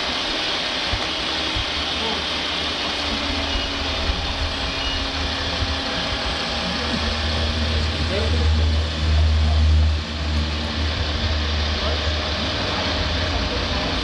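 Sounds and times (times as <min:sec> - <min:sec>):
model engine hum: 0:00.0 - 0:14.0.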